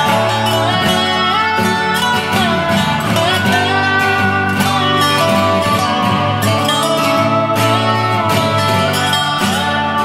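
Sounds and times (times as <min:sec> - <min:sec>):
country guitar music: 0:00.0 - 0:10.0.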